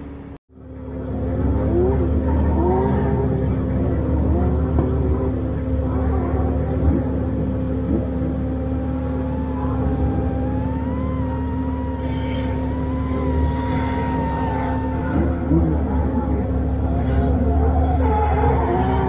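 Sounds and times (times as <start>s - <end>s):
car engine revving: 0.0s - 19.0s
drone motors whining: 0.0s - 19.0s
heavy low rumble: 0.0s - 19.0s.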